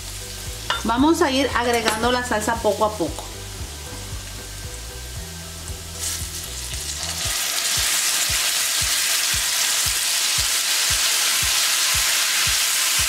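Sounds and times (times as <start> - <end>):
salsa sizzling in a skillet: 0.0 - 13.0.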